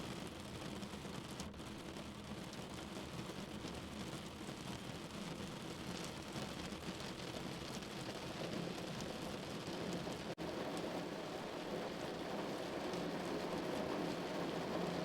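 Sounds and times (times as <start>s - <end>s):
faint raindrop ticks: 0.0s - 11.1s, 11.8s - 15.0s
steady rain falling: 0.0s - 15.0s.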